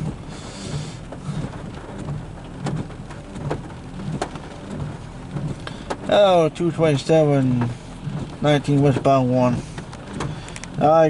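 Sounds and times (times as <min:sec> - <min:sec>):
low pulsing rumble: 0:00.0 - 0:11.0
rain tapping on car roof: 0:00.0 - 0:11.0.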